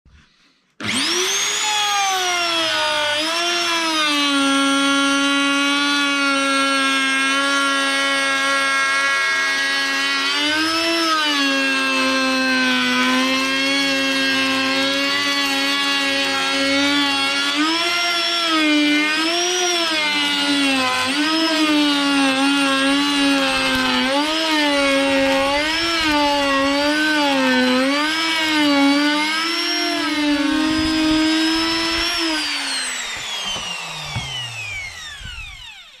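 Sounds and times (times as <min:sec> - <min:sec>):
electric router whine: 0:00.8 - 0:36.0
router winding down: 0:00.8 - 0:36.0.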